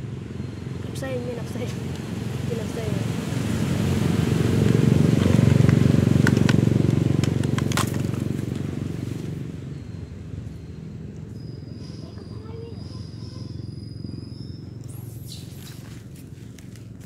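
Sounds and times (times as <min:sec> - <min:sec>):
motorbike engine passing by: 0:00.1 - 0:16.6.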